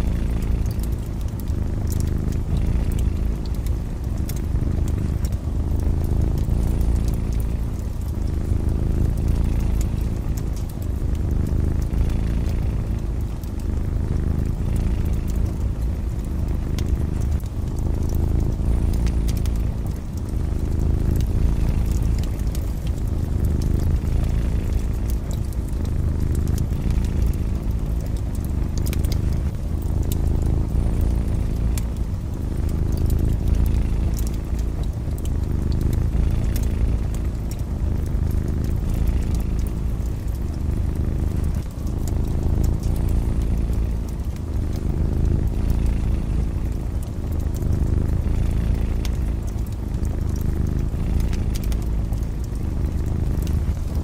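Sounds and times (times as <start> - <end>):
cat purring: 0.0 - 54.0
wood fire crackling: 0.0 - 54.0.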